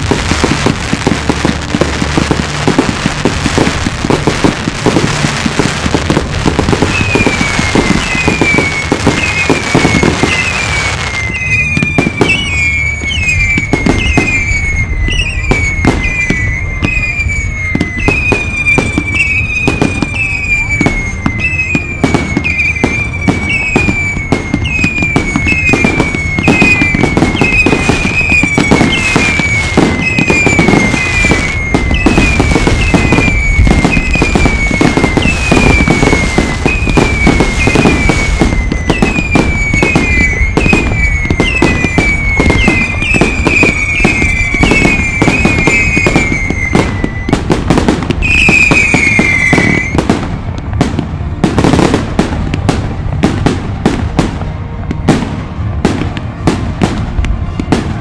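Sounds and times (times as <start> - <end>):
falling firework whistles: 0.0 - 58.0
fireworks bangs and crackling: 0.0 - 58.0.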